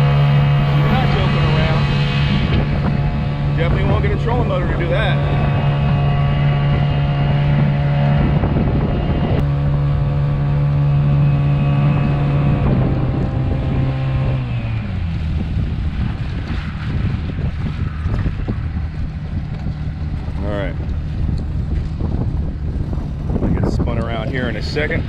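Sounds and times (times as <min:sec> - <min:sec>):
water splashing: 0:00.0 - 0:23.8
outboard engine running: 0:00.0 - 0:25.0
wind on microphone: 0:00.0 - 0:25.0.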